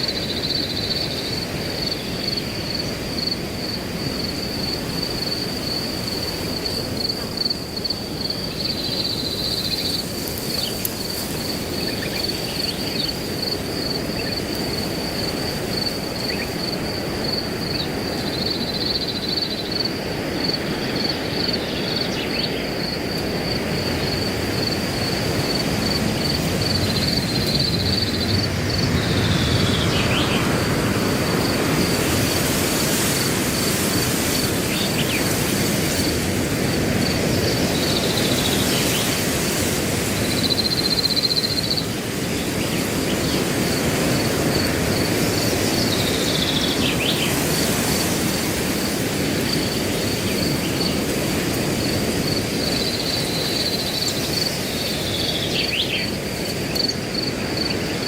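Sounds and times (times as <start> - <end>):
cricket chirping: 0.0 - 58.0
wind rushing through grass: 0.0 - 58.0.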